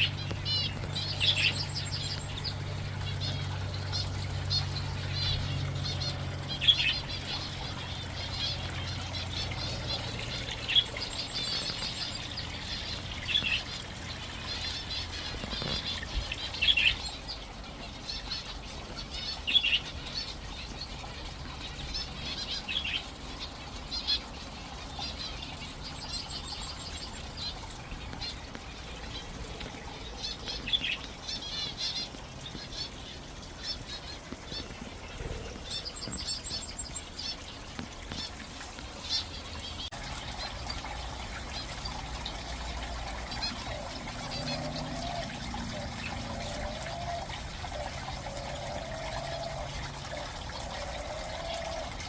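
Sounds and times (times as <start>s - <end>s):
small birds chirping: 0.0s - 52.0s
waterfall trickling: 0.0s - 52.0s.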